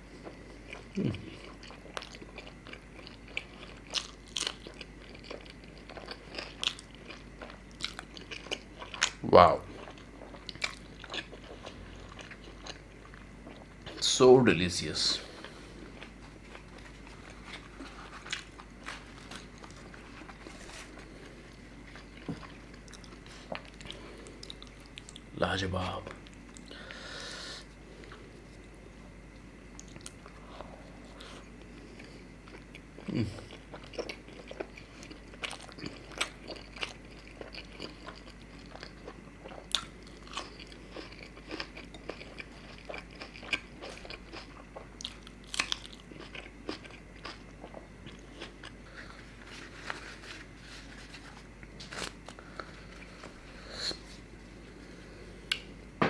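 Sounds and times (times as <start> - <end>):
chewing and biting flatbread: 0.1 - 14.0, 15.4 - 25.3, 29.8 - 53.5.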